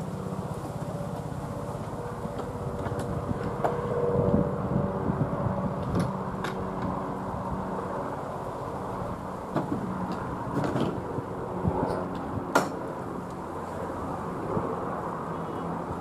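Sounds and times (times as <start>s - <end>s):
helicopter flying overhead: 0.0s - 16.0s.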